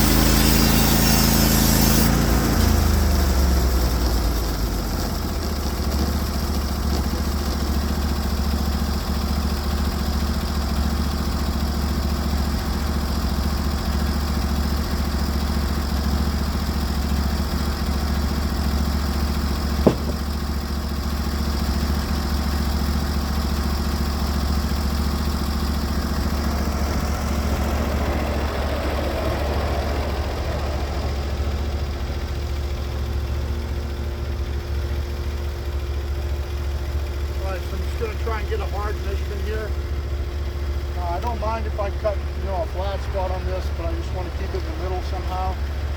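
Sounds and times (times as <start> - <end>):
sawmill engine running: 0.0 - 45.9.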